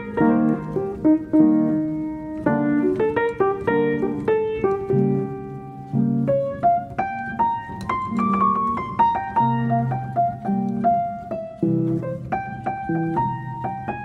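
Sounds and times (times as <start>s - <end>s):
slow piano melody: 0.0s - 14.0s.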